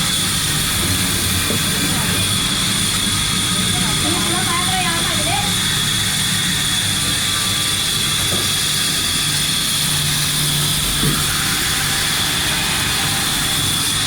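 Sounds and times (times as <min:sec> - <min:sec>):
machinery whining and humming: 0:00.0 - 0:14.0.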